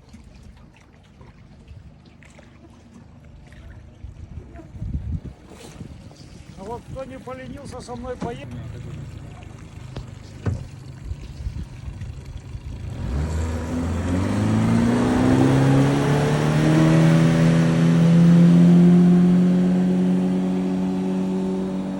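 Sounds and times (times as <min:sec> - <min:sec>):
motorboat engine: 0:00.0 - 0:21.9.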